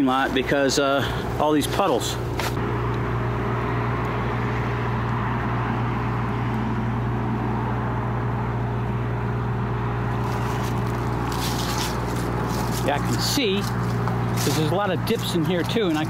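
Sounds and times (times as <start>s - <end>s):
diesel truck engine idling: 0.1s - 6.2s, 6.8s - 16.0s.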